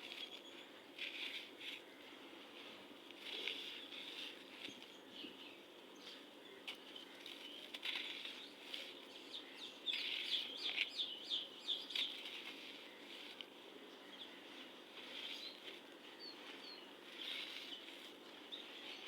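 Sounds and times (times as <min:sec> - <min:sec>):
sand crumbling and crackling: 0:00.0 - 0:05.2, 0:06.6 - 0:19.0.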